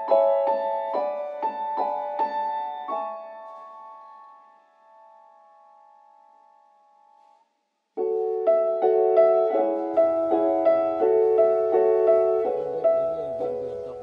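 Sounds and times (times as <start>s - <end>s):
piano music: 0.0s - 7.4s, 8.0s - 14.0s.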